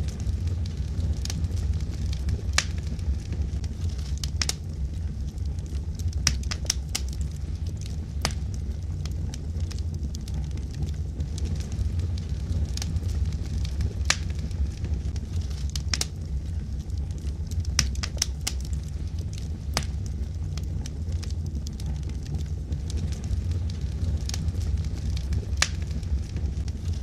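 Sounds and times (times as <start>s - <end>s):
logs crackling and popping: 0.0s - 27.0s
low rumble of flames: 0.0s - 27.0s.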